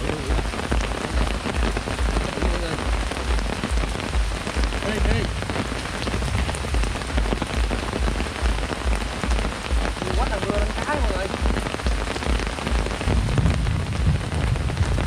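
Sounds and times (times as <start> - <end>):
heavy rain pattering: 0.0 - 15.0
low thumps: 0.0 - 15.0.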